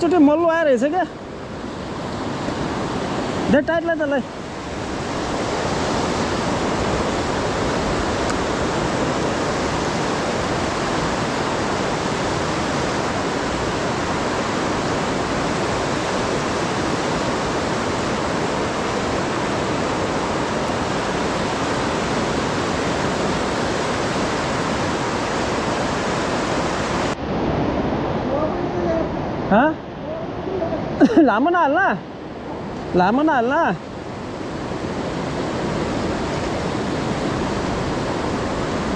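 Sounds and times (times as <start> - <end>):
river rapids roaring: 0.0 - 38.9.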